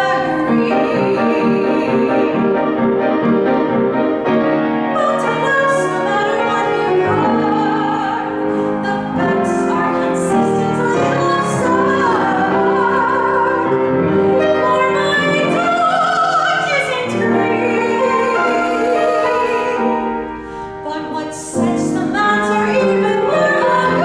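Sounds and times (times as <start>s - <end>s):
woman singing operatically: 0.0s - 2.5s, 5.0s - 20.2s, 20.8s - 24.0s
piano accompaniment: 0.0s - 24.0s.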